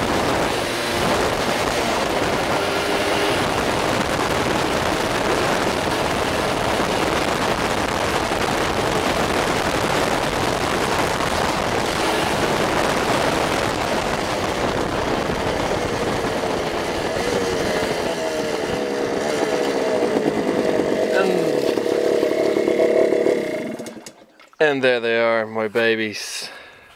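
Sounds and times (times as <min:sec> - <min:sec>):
wind over microphone: 0:00.0 - 0:23.6
motorbike engine running: 0:00.0 - 0:24.0.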